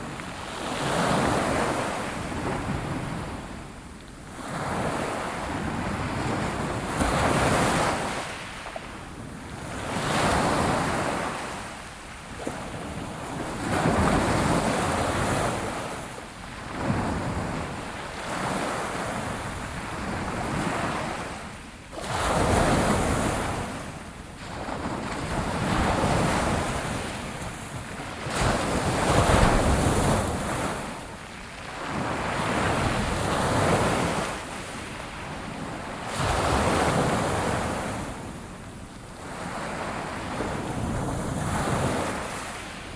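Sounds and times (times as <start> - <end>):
wind noise on microphone: 0.0 - 21.3, 22.0 - 42.9
ocean waves breaking on shore: 0.0 - 42.9.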